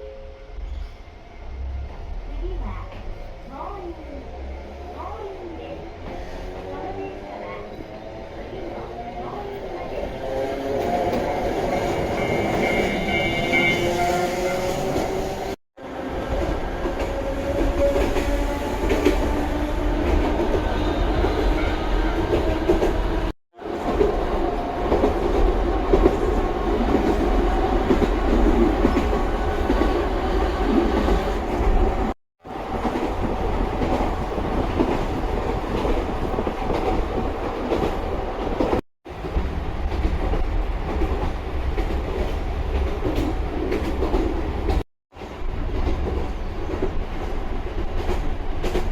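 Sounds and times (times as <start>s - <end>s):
train rumble: 0.5s - 48.9s.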